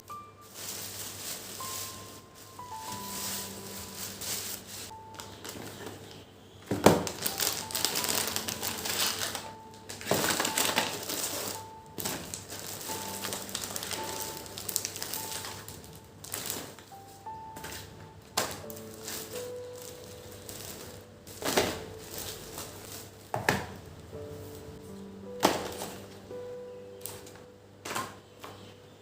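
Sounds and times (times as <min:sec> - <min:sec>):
soft background music: 0:00.0 - 0:29.0
crinkling handling noises: 0:00.1 - 0:28.8.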